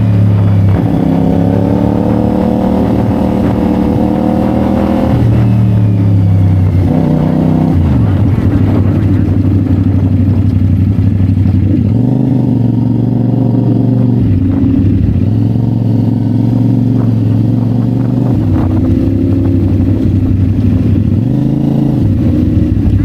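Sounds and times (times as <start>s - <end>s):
motorcycle engine under load: 0.0s - 23.0s.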